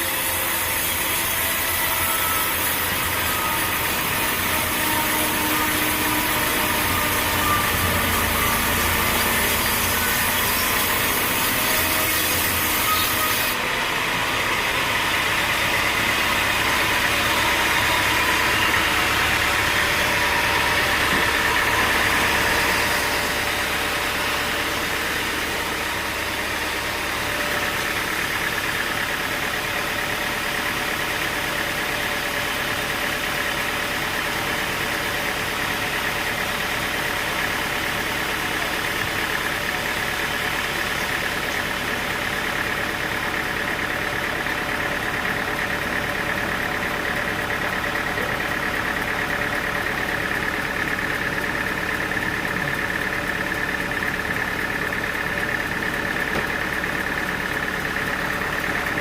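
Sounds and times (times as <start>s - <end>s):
engine-driven saw cutting wood: 0.0s - 59.0s.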